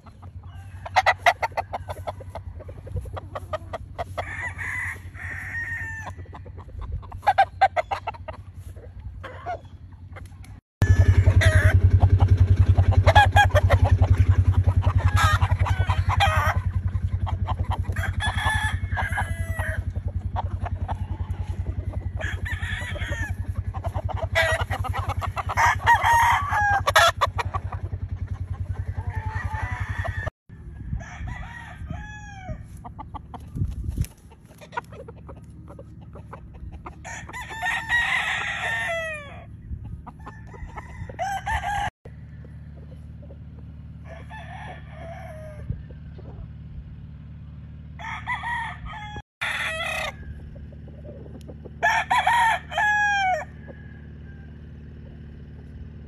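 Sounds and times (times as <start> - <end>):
roosters crowing: 0.0 - 56.0.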